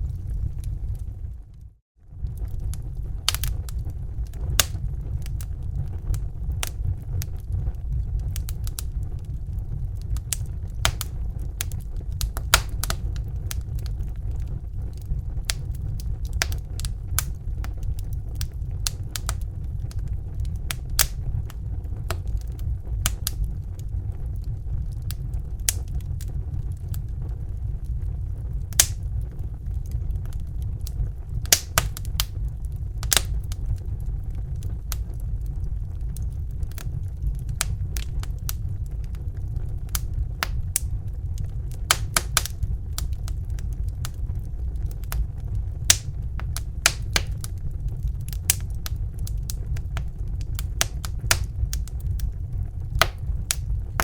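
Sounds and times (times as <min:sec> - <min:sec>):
burner flame roar: 0:00.0 - 0:54.0
wood fire crackling: 0:00.0 - 0:54.0.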